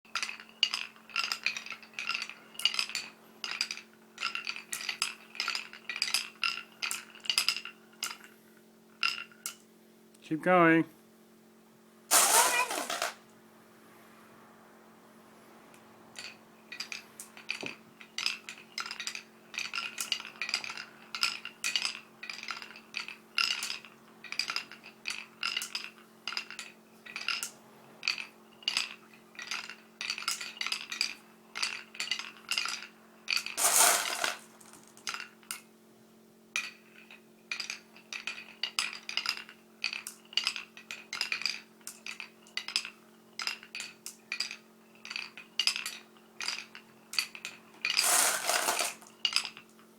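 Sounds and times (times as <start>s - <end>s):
glass marbles clicking: 0.1s - 8.4s, 9.0s - 9.6s, 12.1s - 13.2s, 16.1s - 35.7s, 36.6s - 49.8s.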